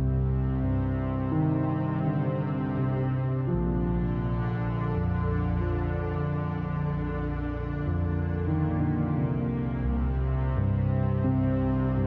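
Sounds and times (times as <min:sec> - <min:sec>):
slow synthesizer chords: 0:00.0 - 0:12.0.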